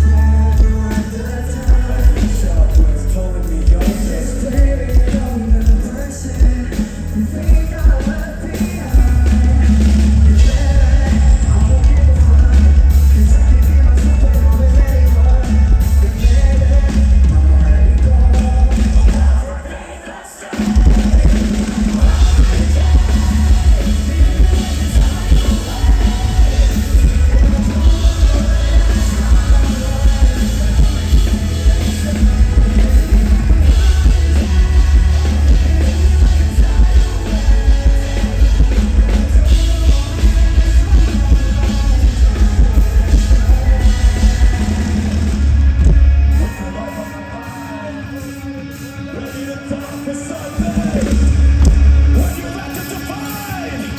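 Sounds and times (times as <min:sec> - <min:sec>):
fast pounding drums: 0:00.0 - 0:47.9, 0:49.9 - 0:53.6
heavy rock band playing: 0:00.0 - 0:53.9.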